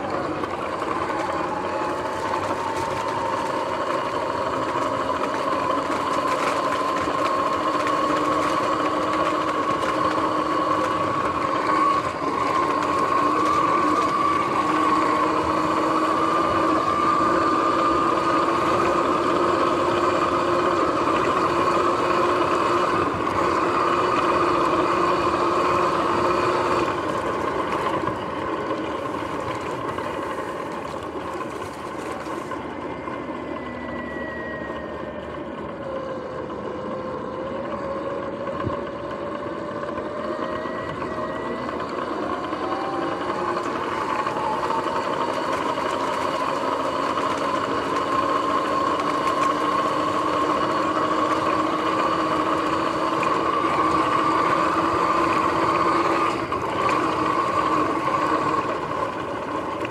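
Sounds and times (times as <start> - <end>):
electric motor whine: 0.0 - 59.9
tyres over grass and rough ground: 0.0 - 59.9.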